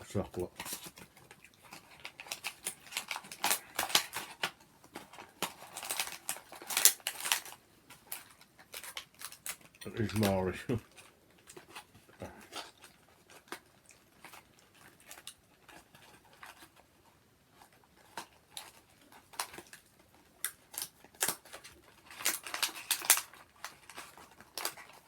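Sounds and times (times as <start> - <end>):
foil wrapper crinkling: 0.0 - 25.0.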